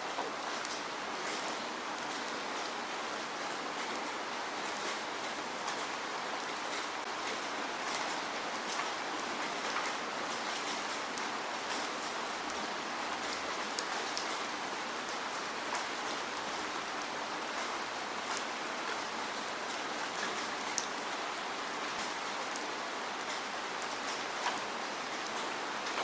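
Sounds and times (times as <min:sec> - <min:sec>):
raindrops ticking on a surface: 0:00.1 - 0:26.0.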